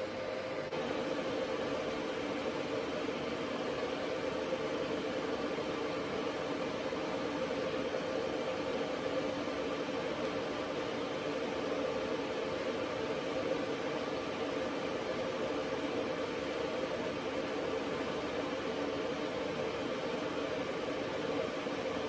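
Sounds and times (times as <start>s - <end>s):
welding arc hissing and humming: 0.7s - 21.7s.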